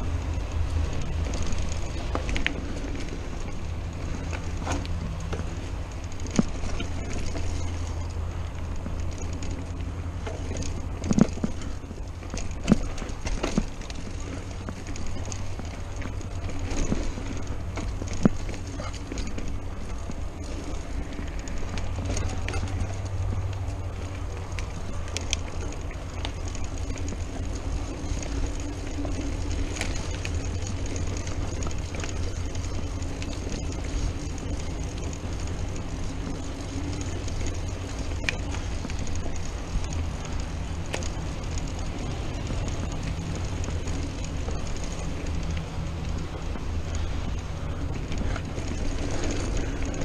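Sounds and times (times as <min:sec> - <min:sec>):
bike rattling: 0:00.0 - 0:50.0
tyres rumbling on dirt: 0:00.0 - 0:50.0.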